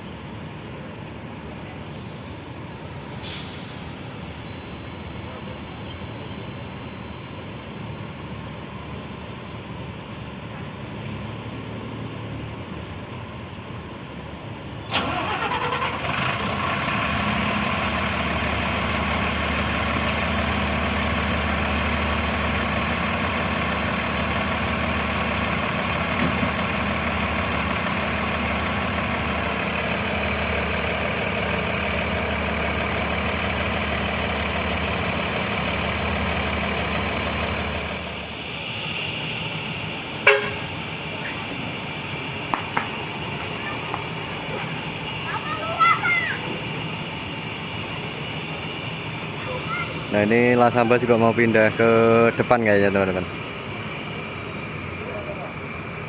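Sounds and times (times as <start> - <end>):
bus diesel engine starting and idling: 0.0 - 56.0.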